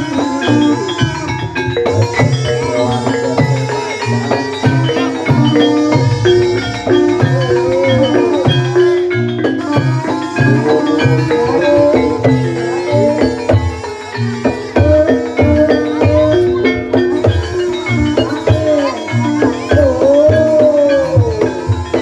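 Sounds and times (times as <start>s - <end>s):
mallet-struck tuned percussion: 0.0s - 22.0s.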